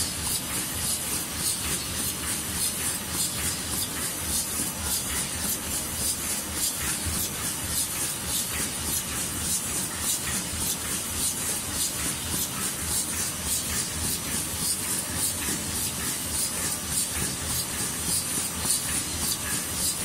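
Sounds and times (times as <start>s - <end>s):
napkin machine running: 0.0s - 20.0s.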